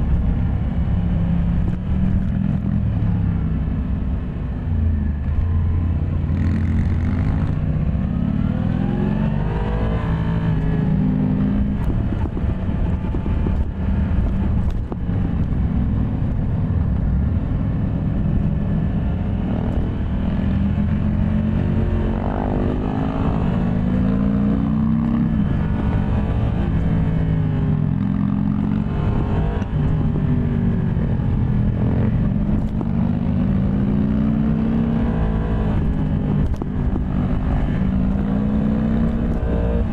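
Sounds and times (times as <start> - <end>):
motorcycle engine revving: 5.2 - 16.5, 17.4 - 39.9.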